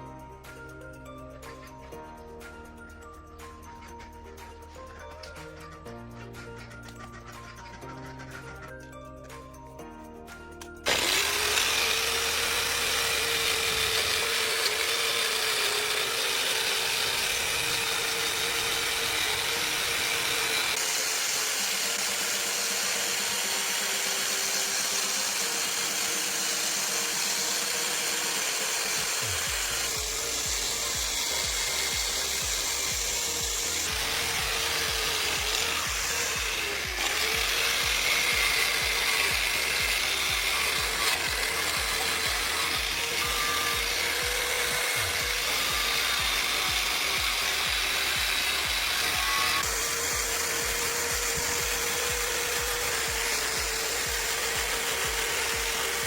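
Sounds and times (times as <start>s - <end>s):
power tool grinding: 1.2s - 9.4s, 10.6s - 56.0s.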